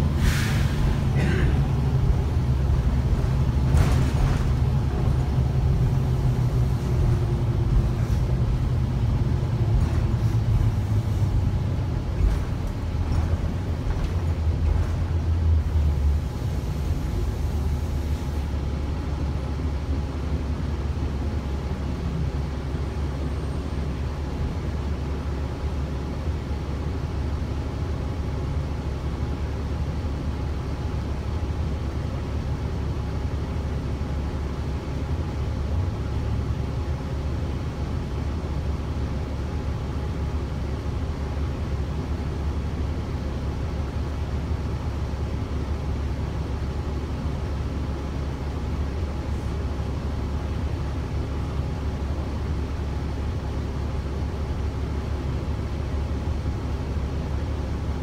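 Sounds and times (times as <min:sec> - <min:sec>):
bus engine rumble: 0:00.0 - 0:58.0
road noise: 0:00.0 - 0:58.0.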